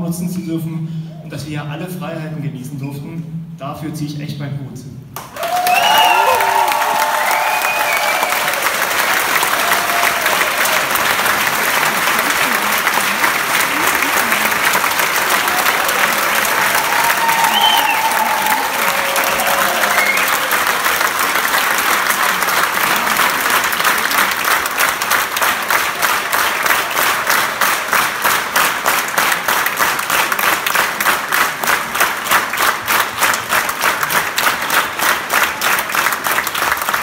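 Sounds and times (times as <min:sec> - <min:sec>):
crowd applauding: 0:05.2 - 0:37.0
rhythmic clapping in unison: 0:05.2 - 0:37.0.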